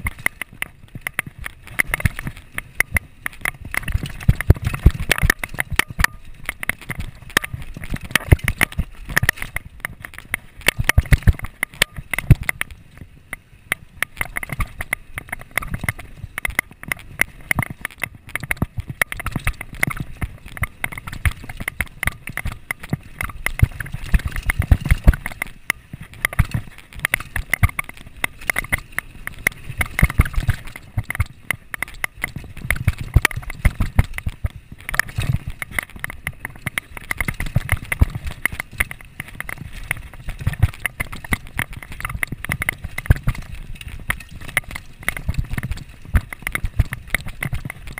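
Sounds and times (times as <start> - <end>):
mountain bike rattling: 0.0 - 47.9.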